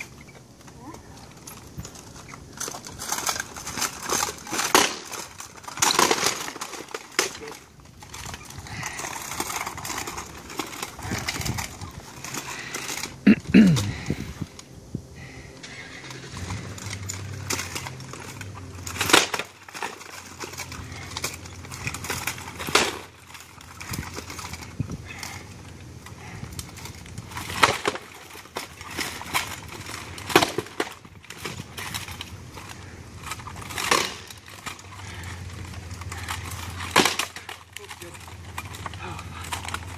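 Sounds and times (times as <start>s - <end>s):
armour clattering: 0.0s - 14.0s, 15.6s - 39.9s.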